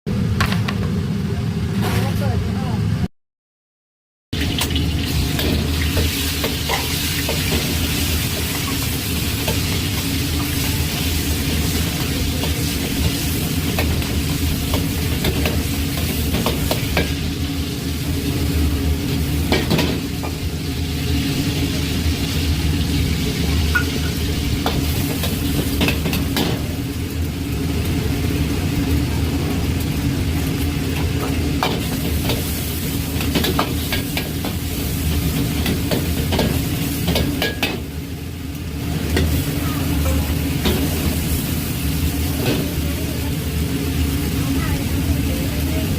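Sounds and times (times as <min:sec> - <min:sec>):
rice sizzling in a pan: 0:04.4 - 0:45.9.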